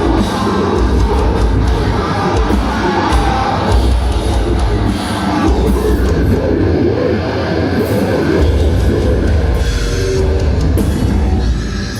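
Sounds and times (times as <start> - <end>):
heavy metal band playing: 0.0 - 11.9.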